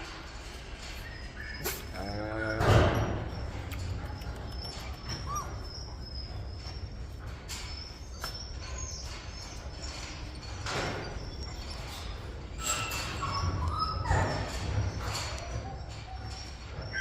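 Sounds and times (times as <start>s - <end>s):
puppies chirping: 0.9s - 2.4s, 3.2s - 17.0s
puppy squeak: 0.9s - 17.0s.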